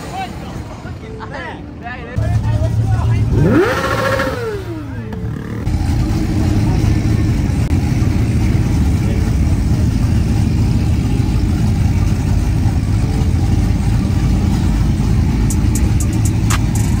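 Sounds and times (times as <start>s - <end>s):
pickup truck engines rumbling: 0.0s - 17.0s.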